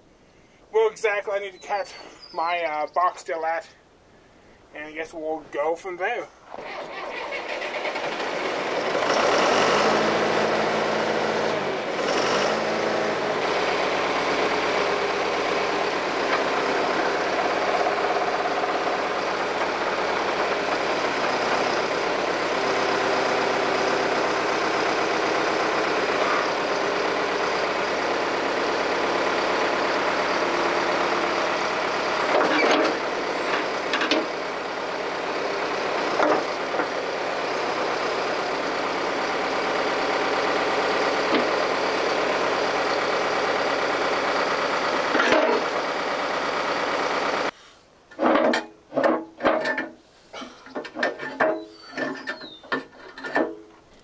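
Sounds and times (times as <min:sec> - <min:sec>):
diesel engine running: 0:06.5 - 0:47.6, 0:50.4 - 0:54.0.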